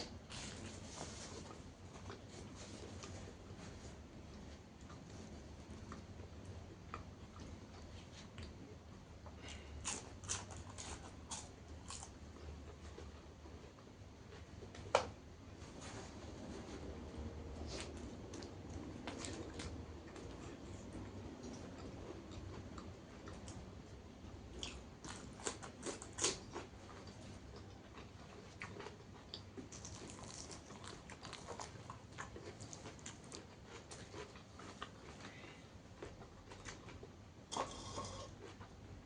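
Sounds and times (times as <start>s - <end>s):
person chewing crisp food: 0.0s - 13.9s, 17.6s - 38.8s.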